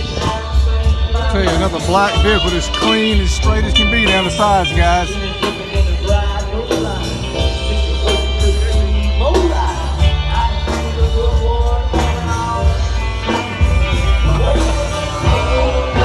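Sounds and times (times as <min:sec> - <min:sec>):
bass notes: 0:00.0 - 0:16.0
live rock and roll band: 0:00.0 - 0:16.0
man singing: 0:00.0 - 0:16.0
steady drum beat: 0:00.1 - 0:16.0.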